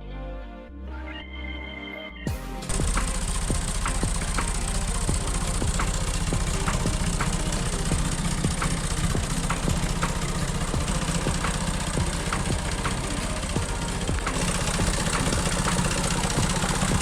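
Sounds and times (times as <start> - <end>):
sharp engine knock: 2.7 - 17.0
tractor engine idling: 2.7 - 17.0.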